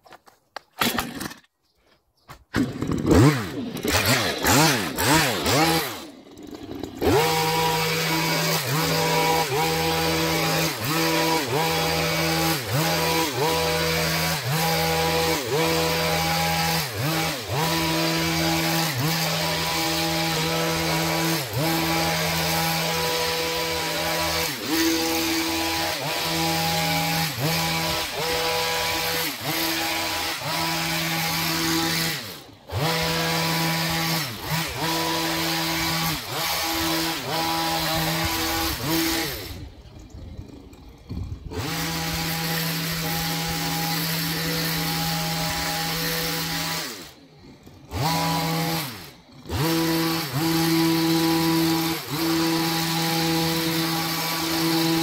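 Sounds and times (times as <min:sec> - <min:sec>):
hedge trimmer engine running: 0:00.8 - 0:01.5, 0:02.6 - 0:55.0.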